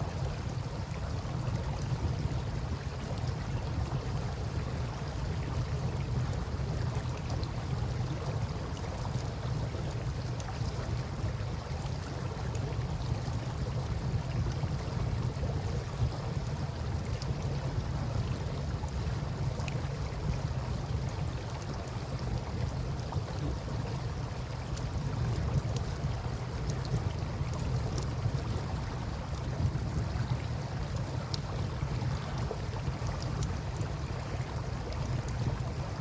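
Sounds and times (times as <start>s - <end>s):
river flowing: 0.0s - 36.0s.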